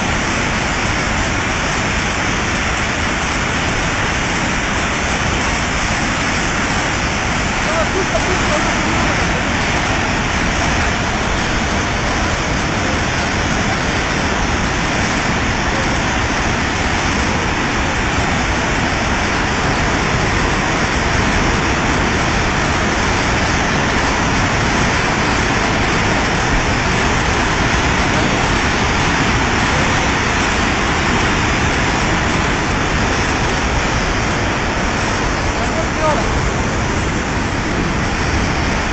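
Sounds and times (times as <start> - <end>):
torrent of water rushing: 0.0 - 38.9.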